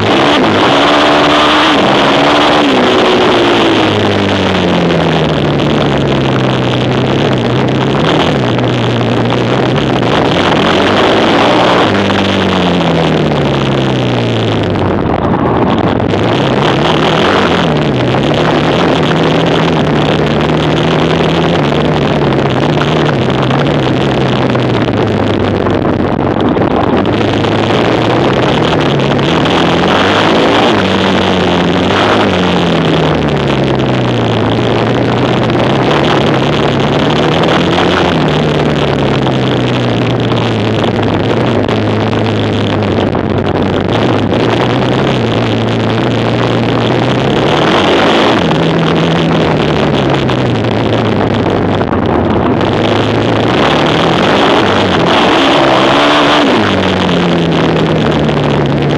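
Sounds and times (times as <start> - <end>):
quad bike engine revving: 0.0 - 58.9.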